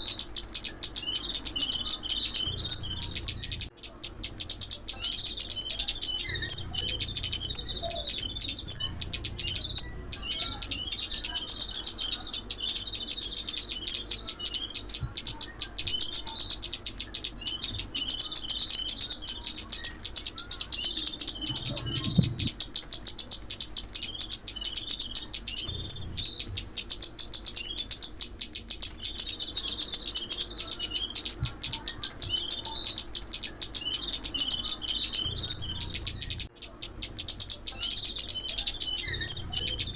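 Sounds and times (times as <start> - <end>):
bird chirps and twitters: 0.0 - 39.9
thin steady whistle: 0.0 - 39.9.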